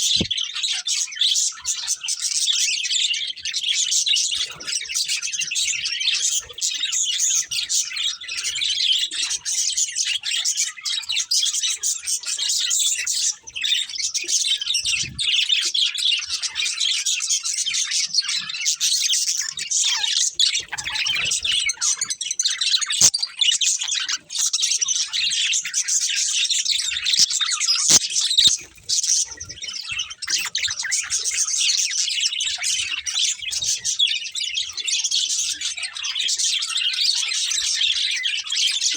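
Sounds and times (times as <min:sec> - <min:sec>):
budgerigars chirping and warbling: 0:00.0 - 0:38.9.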